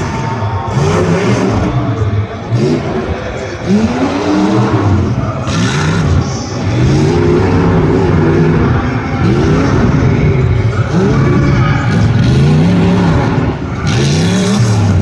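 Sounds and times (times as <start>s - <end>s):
off-road racing engines revving: 0.0s - 15.0s.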